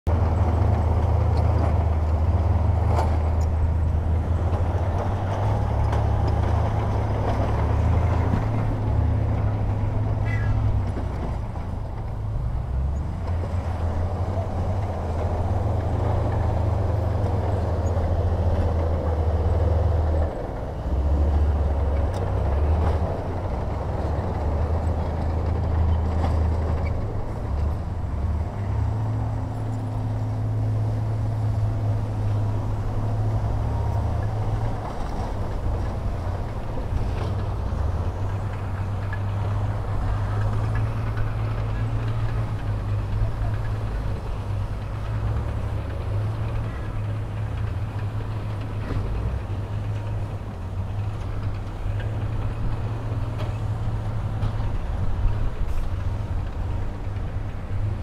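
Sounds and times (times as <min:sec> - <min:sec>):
heavy diesel machinery rumbling: 0:00.1 - 0:58.0.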